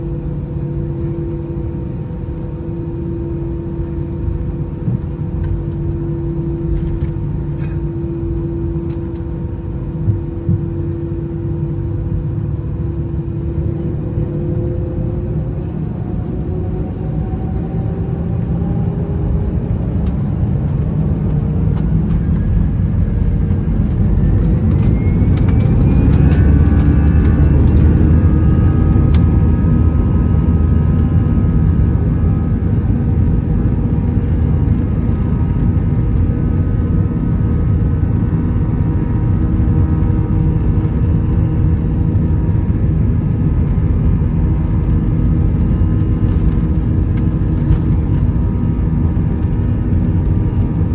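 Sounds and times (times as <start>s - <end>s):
heavy low engine rumble: 0.0s - 50.9s
jet engines rising whine: 0.0s - 50.9s.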